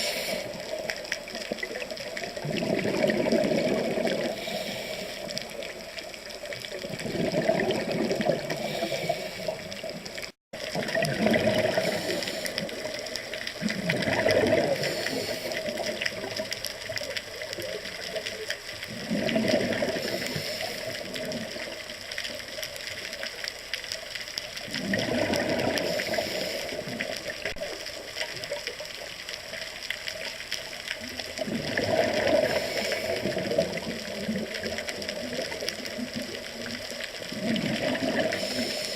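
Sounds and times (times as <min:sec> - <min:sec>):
rushing water: 0:00.0 - 0:23.5, 0:24.5 - 0:38.9.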